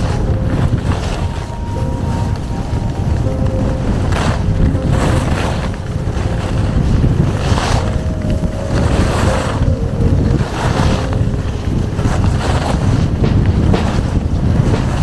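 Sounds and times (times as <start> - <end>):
skis scraping on snow: 0.0 - 15.0
wind buffeting microphone: 0.0 - 15.0.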